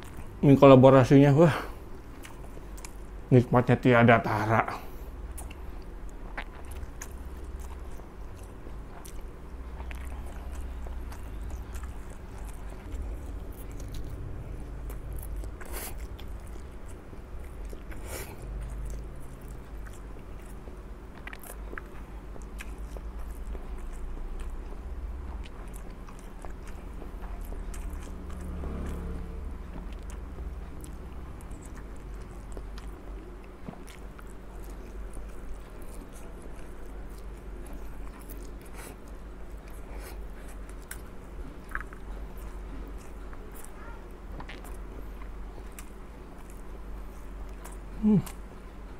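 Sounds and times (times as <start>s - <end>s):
chewing and slurping noodles: 5.3s - 48.9s.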